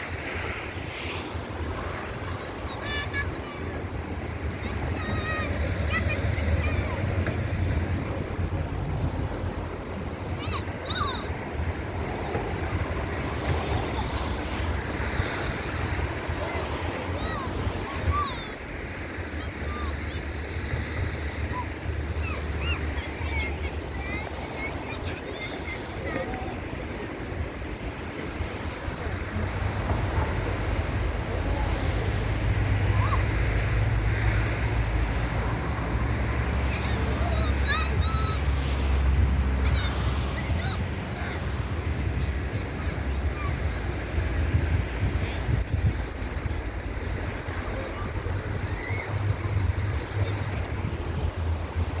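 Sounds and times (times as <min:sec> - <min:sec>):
sea surf washing ashore: 0:00.0 - 0:52.0
wind buffeting microphone: 0:00.0 - 0:52.0.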